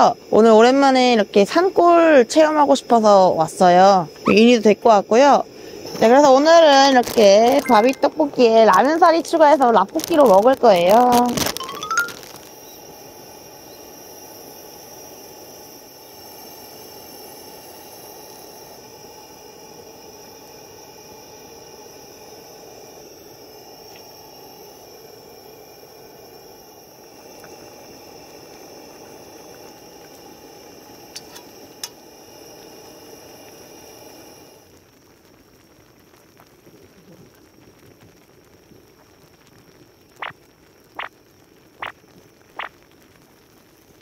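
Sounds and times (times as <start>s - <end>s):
sauce simmering in a pot: 0.0s - 44.0s.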